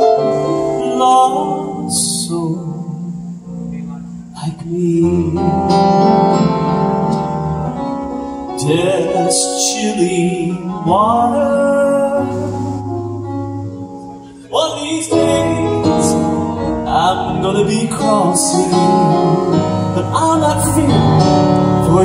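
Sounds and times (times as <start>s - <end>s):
piano accompaniment: 0.0s - 22.0s.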